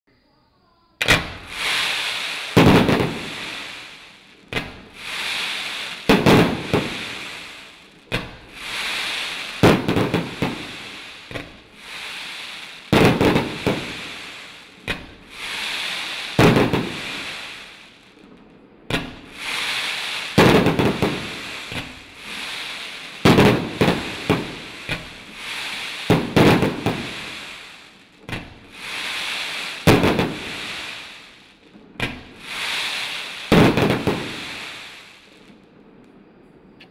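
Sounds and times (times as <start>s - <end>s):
firework launch bangs: 1.0s - 18.0s, 18.9s - 31.4s, 32.0s - 35.3s
crackling hiss of firework bursts: 1.0s - 36.1s.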